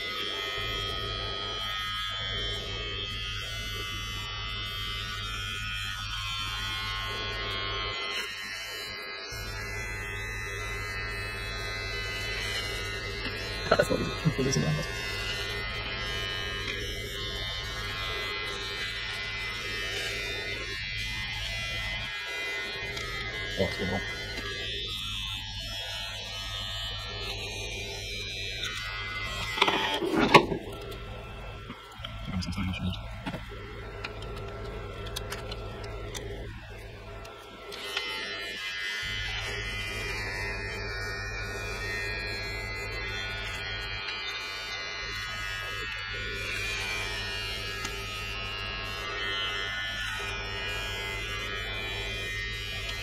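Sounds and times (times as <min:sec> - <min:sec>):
beard trimmer buzzing: 0:00.0 - 0:53.0.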